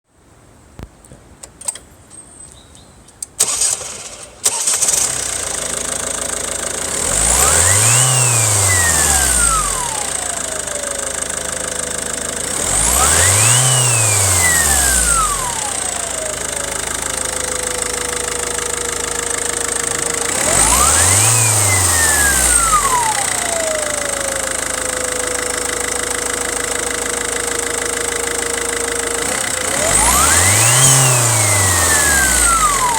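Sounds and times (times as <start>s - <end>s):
car engine revving with whine: 4.4s - 32.9s.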